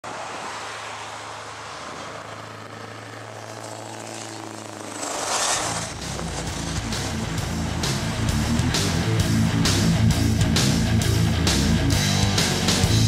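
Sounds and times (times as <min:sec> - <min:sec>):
truck passing by: 0:00.0 - 0:12.1
truck engine running: 0:02.2 - 0:13.0.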